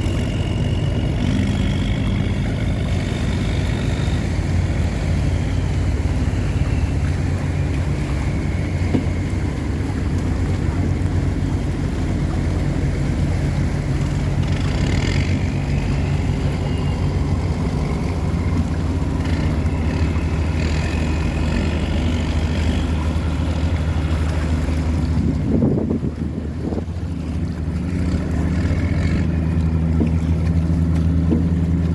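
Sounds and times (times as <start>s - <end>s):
tugboat diesel engine drone: 0.0s - 31.9s.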